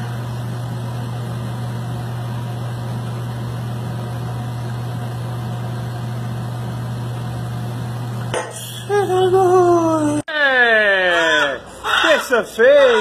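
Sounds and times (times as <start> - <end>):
low machine hum with hiss: 0.0 - 13.0.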